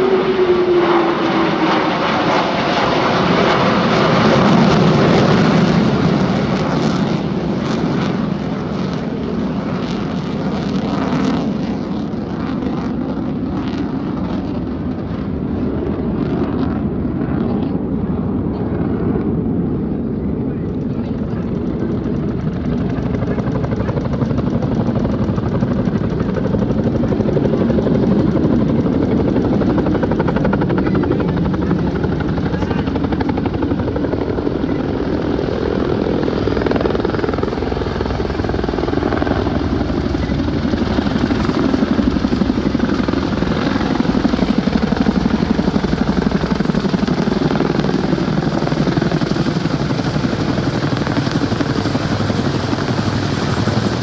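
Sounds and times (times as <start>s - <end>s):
helicopter rotor chopping: 0.0s - 13.8s, 20.1s - 54.0s
helicopter engine noise: 0.0s - 54.0s.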